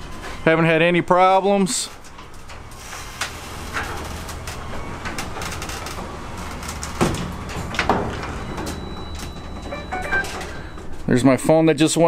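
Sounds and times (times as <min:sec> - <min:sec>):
garage door opener running: 0:00.0 - 0:11.1.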